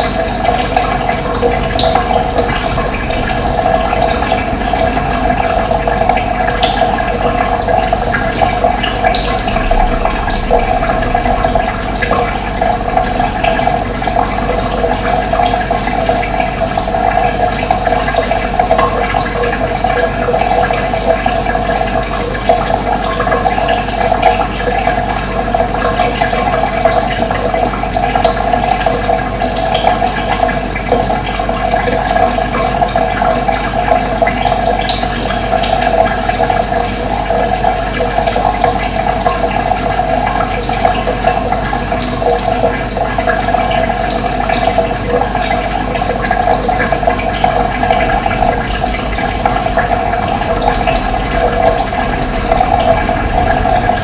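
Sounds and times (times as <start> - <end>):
running water gurgling: 0.0 - 54.0.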